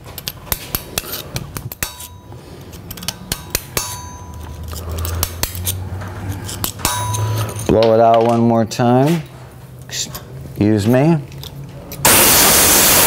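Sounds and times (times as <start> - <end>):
low steady hum: 0.1 - 12.1.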